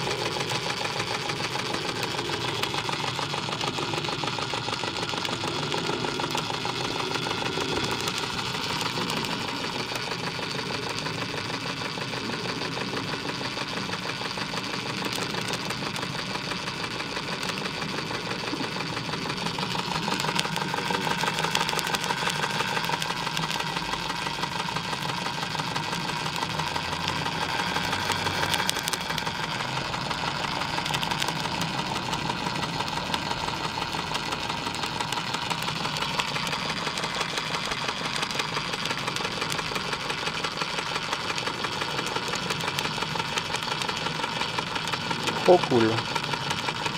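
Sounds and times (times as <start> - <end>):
model steam engine running: 0.0 - 46.9.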